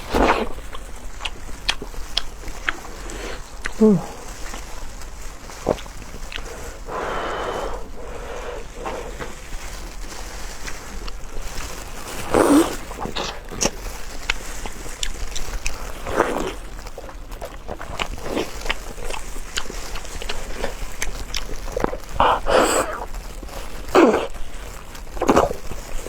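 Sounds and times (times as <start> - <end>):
wet chewing and smacking: 0.0 - 6.9, 8.8 - 26.0.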